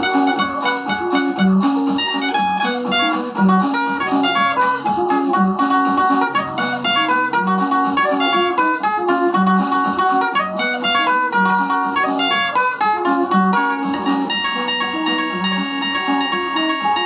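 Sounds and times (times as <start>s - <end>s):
low bass notes: 0.0s - 17.0s.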